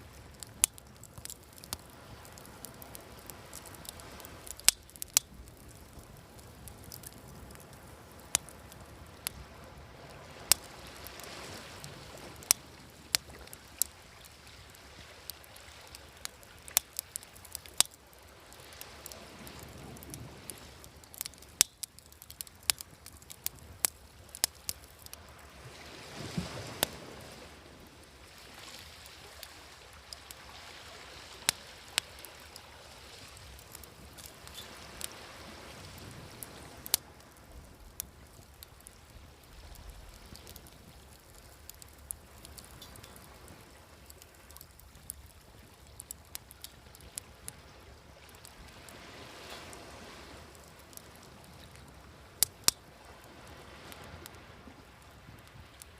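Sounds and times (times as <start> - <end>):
campfire crackling: 0.0 - 55.9
waves washing on shore: 0.0 - 55.9.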